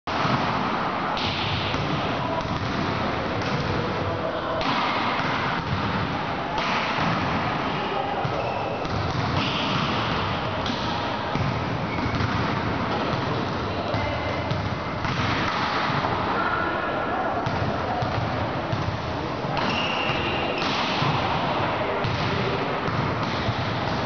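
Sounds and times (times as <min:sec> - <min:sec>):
voices in echoing gym: 0:00.1 - 0:24.0
volleyballs hit and bouncing: 0:00.1 - 0:24.0.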